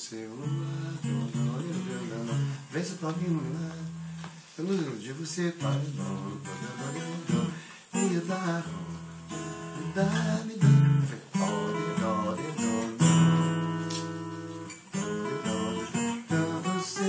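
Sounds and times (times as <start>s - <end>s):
acoustic guitar melody: 0.1s - 17.0s.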